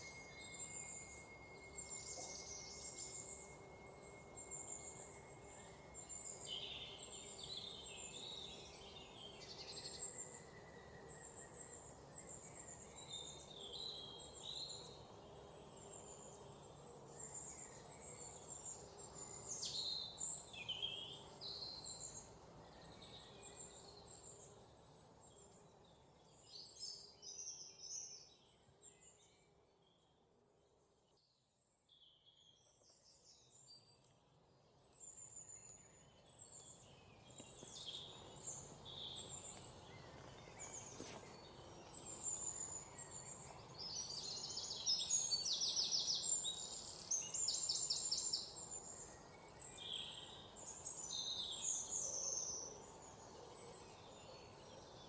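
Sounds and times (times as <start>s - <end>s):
faint background hiss: 0.0s - 55.0s
songbirds chirping and trilling: 0.0s - 55.0s.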